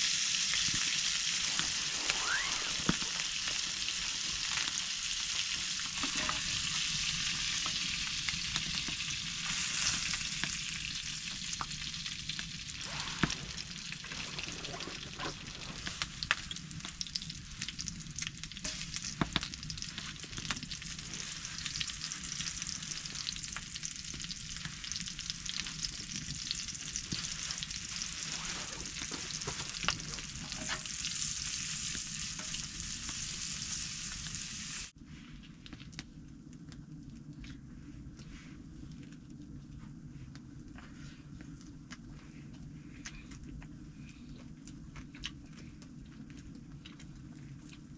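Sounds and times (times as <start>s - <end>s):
wood stove crackles: 0.0s - 47.9s
wood stove sizzling hiss: 0.0s - 47.9s.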